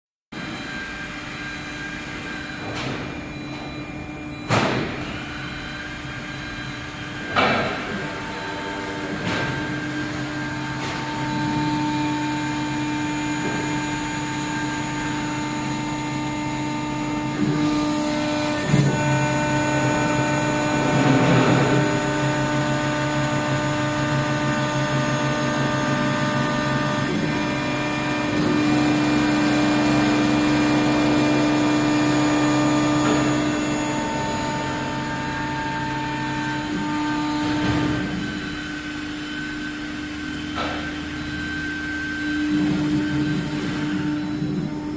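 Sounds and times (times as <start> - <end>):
cnc router whine: 0.4 - 44.9.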